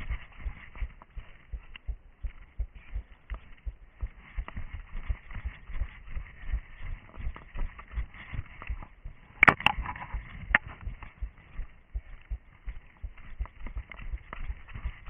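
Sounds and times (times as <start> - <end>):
running footsteps on forest ground: 0.0 - 15.0.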